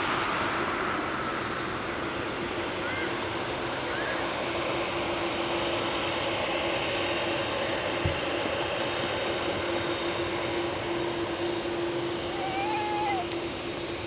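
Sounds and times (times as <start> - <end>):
jet engine drone: 0.0 - 14.0.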